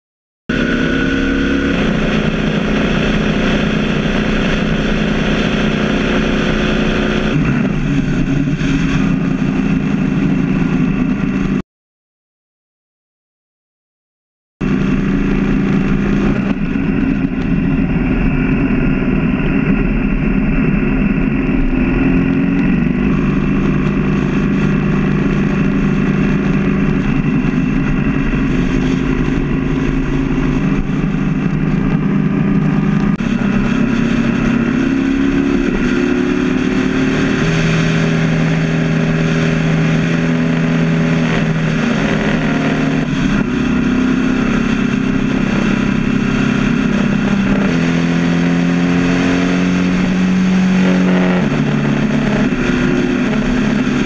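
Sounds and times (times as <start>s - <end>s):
motorcycle engine running: 0.5s - 11.6s, 14.6s - 54.0s.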